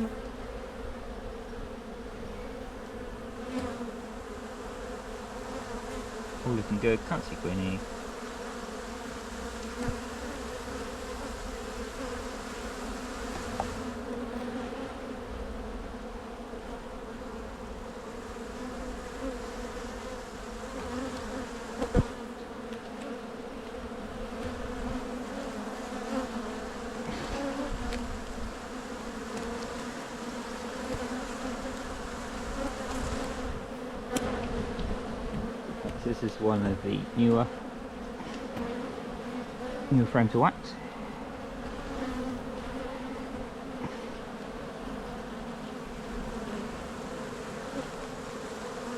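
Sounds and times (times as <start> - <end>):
bees humming: 0.0 - 48.9.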